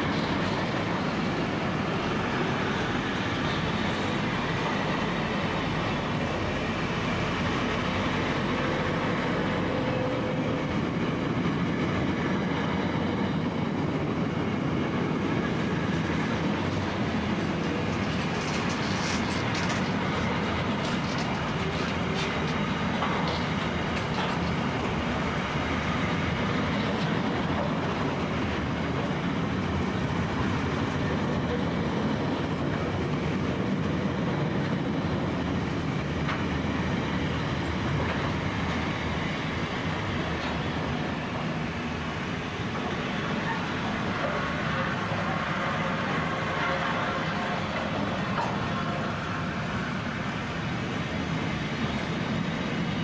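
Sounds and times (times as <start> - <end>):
freight wagons rumbling on rails: 0.0 - 53.0.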